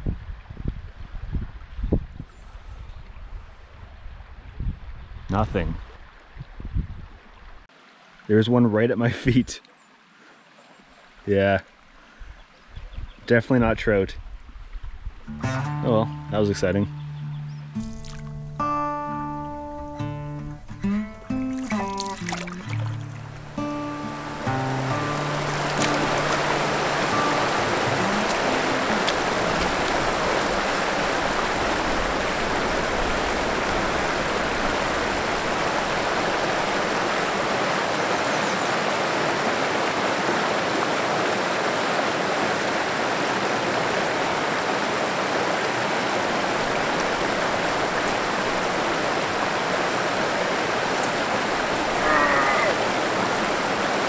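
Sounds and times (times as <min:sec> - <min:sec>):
brook water rushing: 0:07.2 - 0:12.8, 0:15.2 - 0:54.0.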